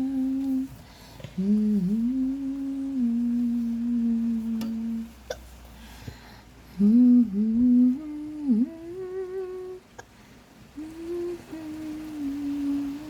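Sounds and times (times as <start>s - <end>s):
person humming a slow tune: 0.0s - 5.5s, 6.7s - 10.1s, 10.7s - 13.0s.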